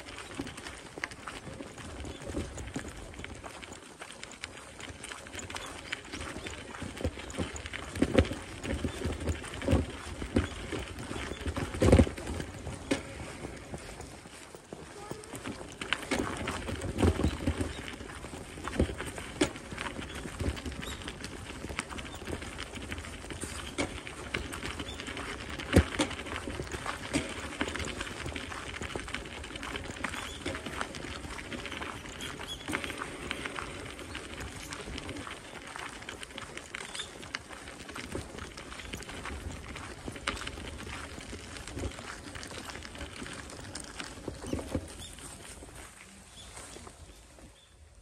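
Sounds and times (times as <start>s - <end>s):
footsteps on dry leaves: 0.0s - 47.5s.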